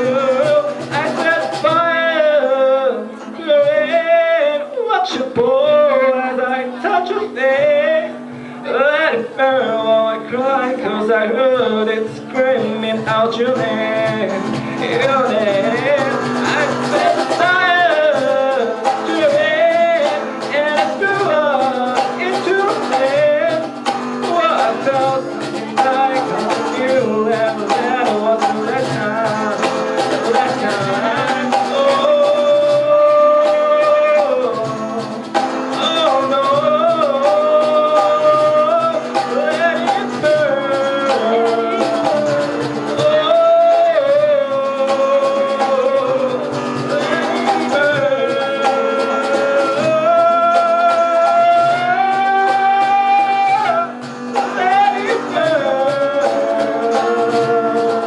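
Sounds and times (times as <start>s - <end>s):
live band music: 0.0s - 58.0s.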